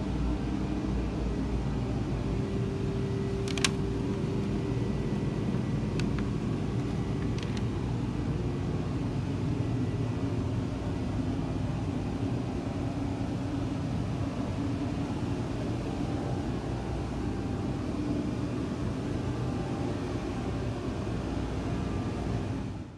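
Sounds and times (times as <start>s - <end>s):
machine shop hum and rumble: 0.0s - 22.9s.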